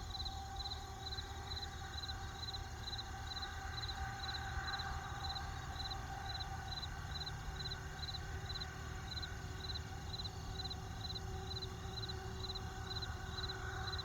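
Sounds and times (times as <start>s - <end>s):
cricket chirping: 0.0s - 14.0s
low background noise: 0.0s - 14.0s.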